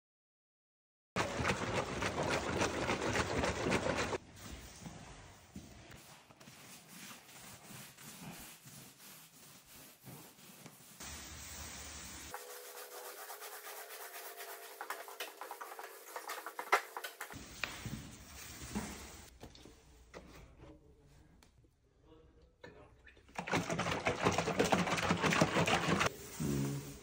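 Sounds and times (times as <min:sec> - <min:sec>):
paint roller squishing on wood floor: 0:01.2 - 0:19.3, 0:23.4 - 0:27.0.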